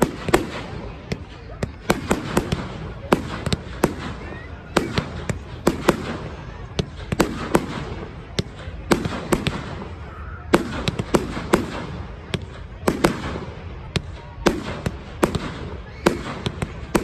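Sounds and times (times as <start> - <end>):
continuous rumble: 0.0 - 17.0
fireworks bangs: 0.0 - 17.0.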